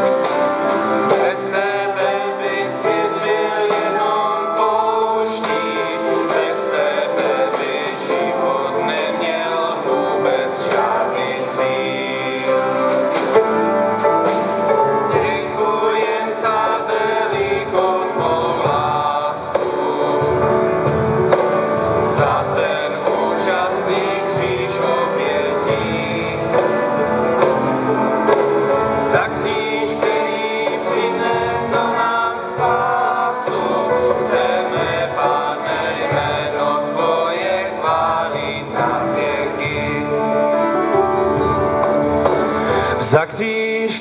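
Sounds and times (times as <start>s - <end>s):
mixed choir singing: 0.0s - 43.2s
acoustic guitars strumming: 0.0s - 44.0s.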